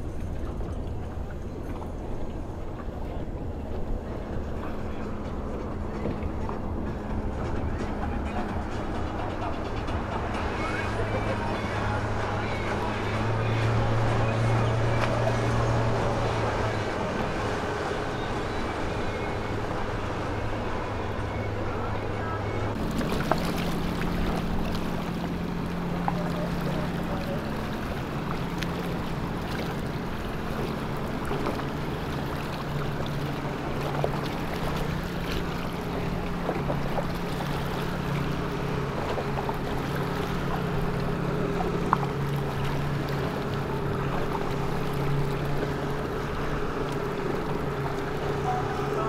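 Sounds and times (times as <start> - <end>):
outboard motors humming: 0.0 - 49.0.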